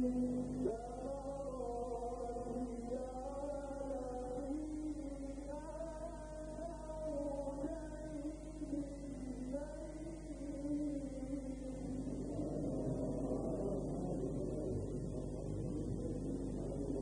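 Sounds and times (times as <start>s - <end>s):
man chanting melodically: 0.0s - 17.0s
steady low hum: 0.0s - 17.0s.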